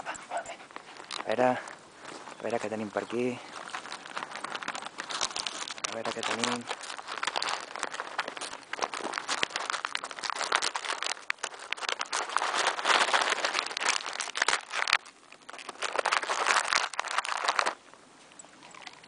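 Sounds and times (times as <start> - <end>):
hand rustling in jacket pocket: 0.6 - 17.8.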